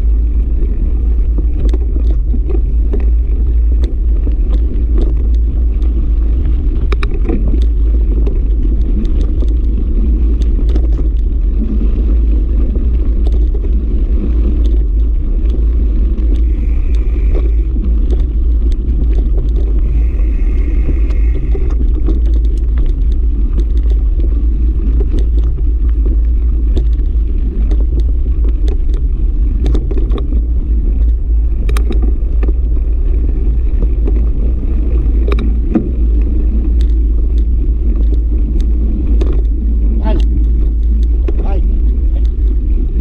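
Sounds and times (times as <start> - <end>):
bike tyres rattling over gravel: 0.0 - 43.0
wind buffeting microphone: 0.0 - 43.0.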